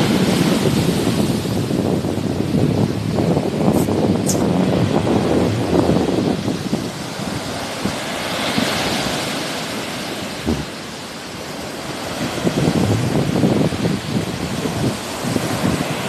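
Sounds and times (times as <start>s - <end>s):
sea waves washing ashore: 0.0s - 16.0s
wind buffeting microphone: 0.0s - 16.0s.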